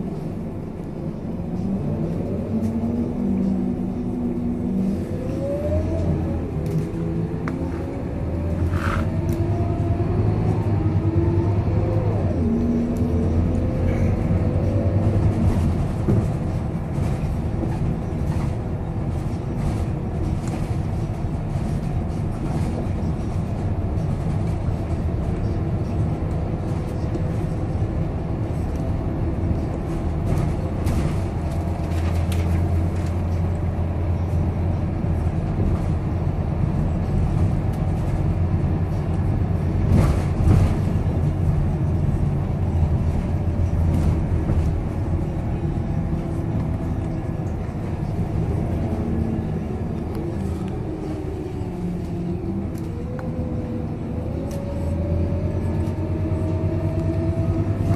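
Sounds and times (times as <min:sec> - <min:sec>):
bus diesel engine drone: 0:00.0 - 0:57.9.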